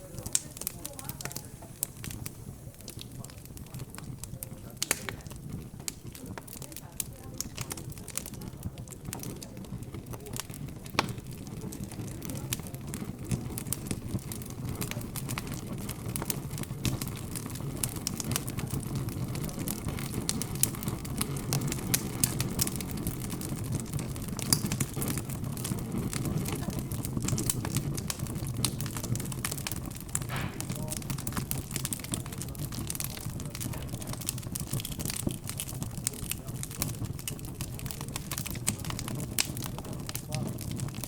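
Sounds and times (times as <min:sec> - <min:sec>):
background chatter: 0:00.0 - 0:41.0
wood fire crackling and popping: 0:00.0 - 0:41.0.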